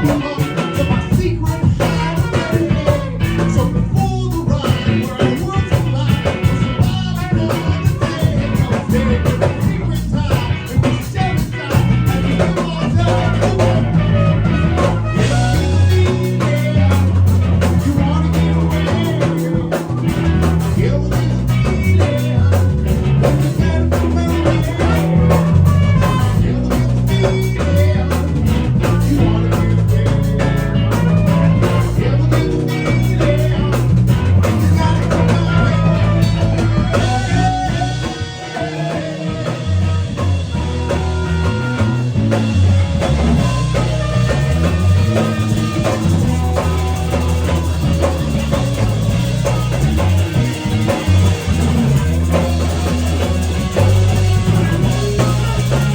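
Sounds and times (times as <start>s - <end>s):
drum kit steady beat: 0.0s - 55.9s
electric guitar: 0.0s - 55.9s
stepping bass line: 0.0s - 55.9s.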